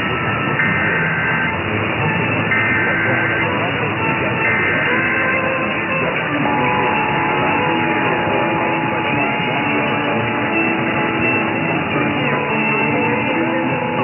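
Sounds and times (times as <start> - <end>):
guitar music on radio: 0.0 - 14.0.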